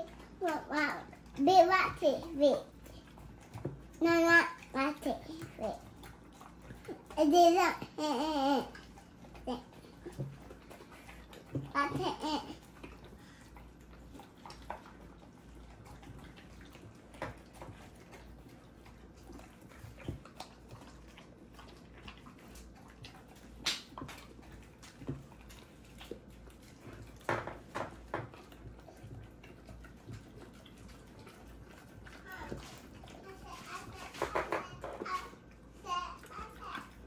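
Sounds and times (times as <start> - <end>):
dogs licking and chewing: 0.0 - 37.0.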